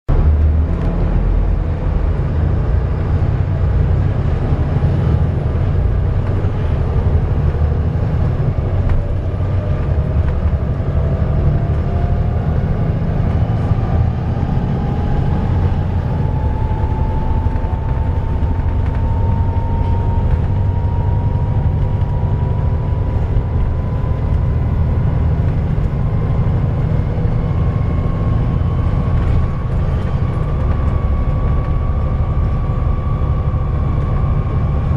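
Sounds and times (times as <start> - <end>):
diesel bus engine rumbling: 0.1 - 34.9
engine cooling fan whining: 0.1 - 34.9.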